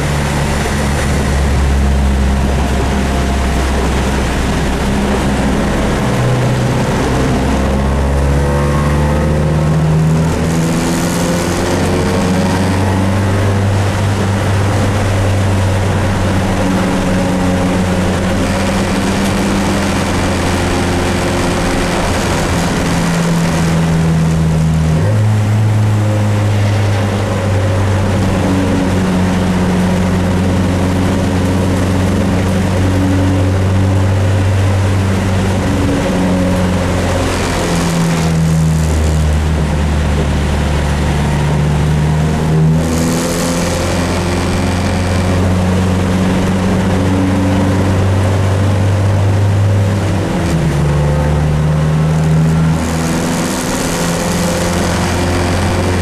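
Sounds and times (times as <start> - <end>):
race car engine under load: 0.0 - 56.0.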